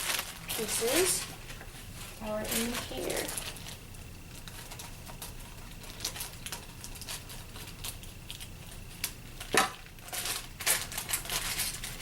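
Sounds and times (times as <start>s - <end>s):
small parts clicking and rustling: 2.3s - 12.0s.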